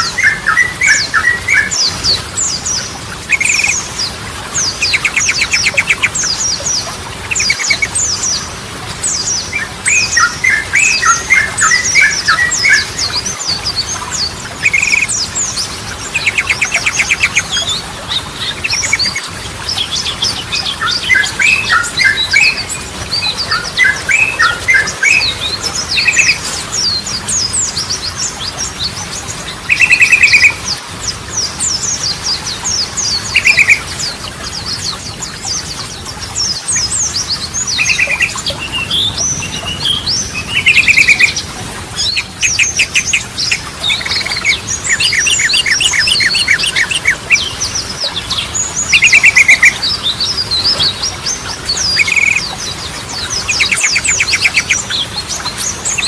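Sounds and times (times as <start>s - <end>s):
high falling bird chirps: 0.0s - 8.5s, 9.1s - 30.7s, 36.7s - 56.0s.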